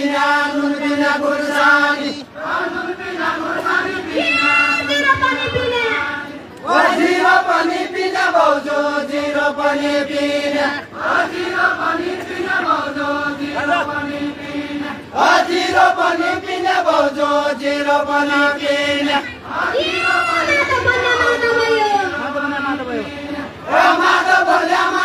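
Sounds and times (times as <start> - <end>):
voices singing a folk chant: 0.0 - 25.0.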